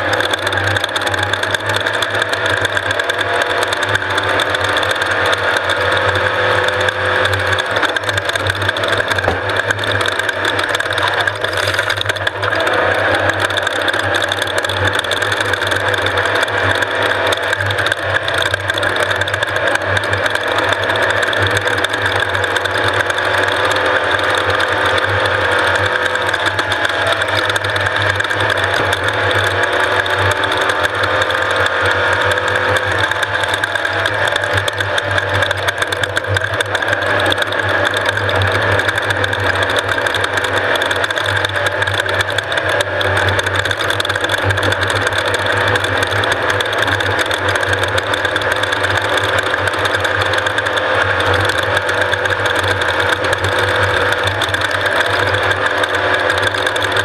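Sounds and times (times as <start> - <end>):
loud race vehicle engine running: 0.0 - 57.0.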